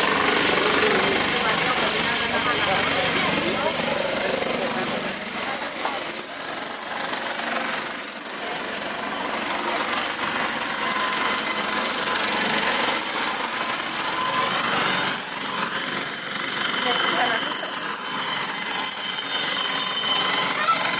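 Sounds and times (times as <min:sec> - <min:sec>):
helicopter turbine and rotors: 0:00.0 - 0:20.9.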